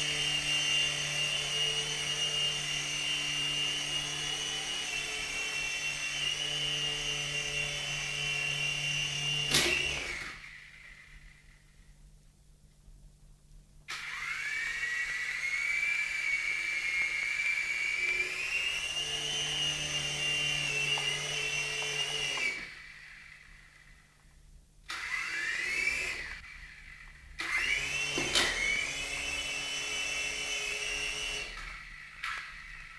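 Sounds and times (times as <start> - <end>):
toy helicopter rotors whining: 0.0 - 11.7, 13.9 - 24.1, 24.9 - 32.9.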